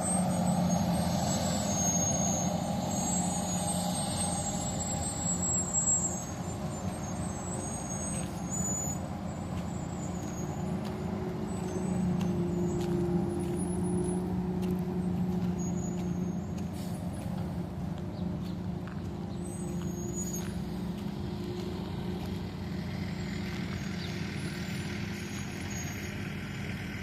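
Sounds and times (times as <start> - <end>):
diesel machinery engine drone: 0.0 - 27.0.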